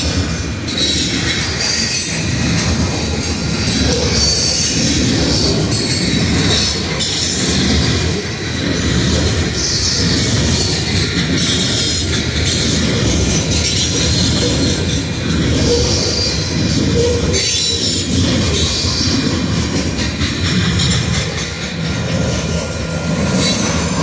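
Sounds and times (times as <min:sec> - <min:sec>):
steel wheels rumbling on rails: 0:00.0 - 0:24.0.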